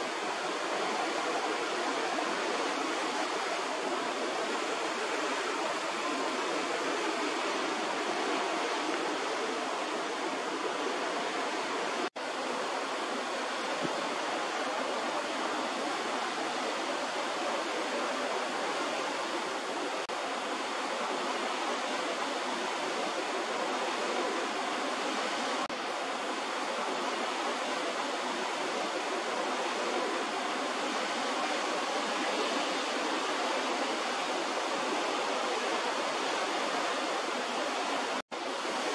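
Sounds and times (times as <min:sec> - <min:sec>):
sea water rushing along hull: 0:00.0 - 0:38.9.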